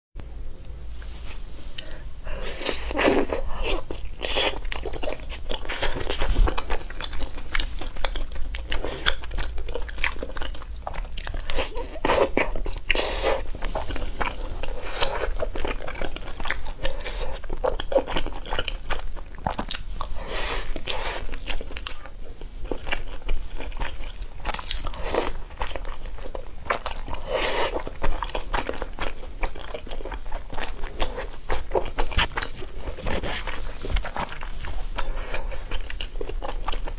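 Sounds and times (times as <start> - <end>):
wet chewing: 2.6 - 36.9.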